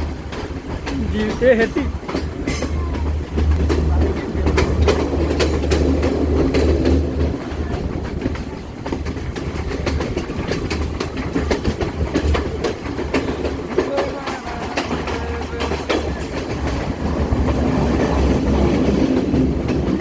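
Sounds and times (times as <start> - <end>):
train rumbling on track: 0.0 - 20.0
wheels clacking over rail joints: 0.0 - 20.0.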